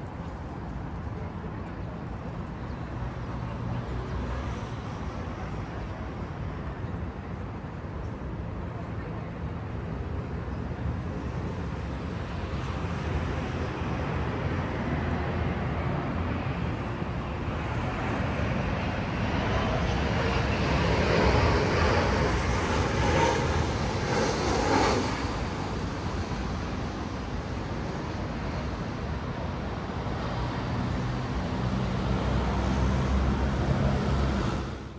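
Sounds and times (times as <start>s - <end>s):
jet plane flying overhead: 0.0s - 34.9s.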